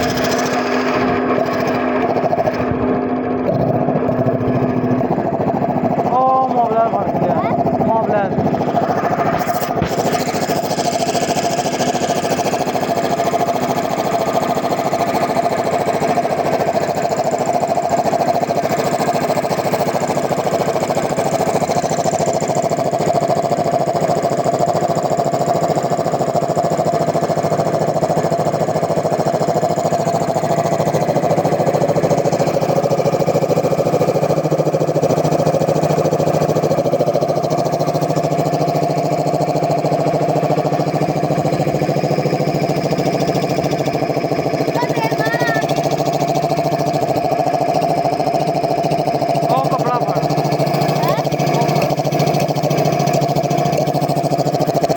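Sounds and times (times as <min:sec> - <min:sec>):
air compressor running: 0:00.0 - 0:54.9.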